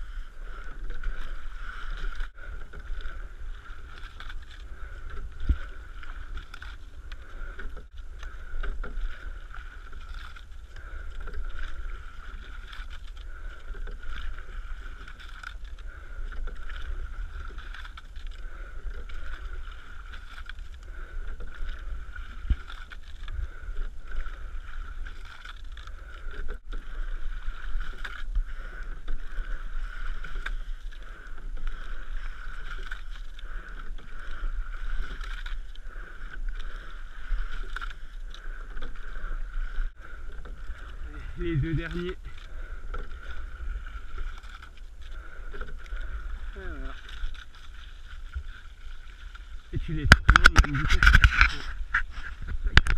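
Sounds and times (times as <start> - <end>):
rowing boat through water: 0.0 - 52.9
wind rumbling on microphone: 0.0 - 52.9.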